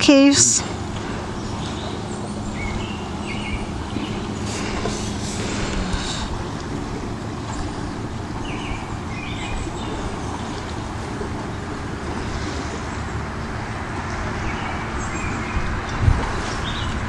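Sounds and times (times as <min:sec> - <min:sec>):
rumbling background noise with hiss: 0:00.0 - 0:17.0.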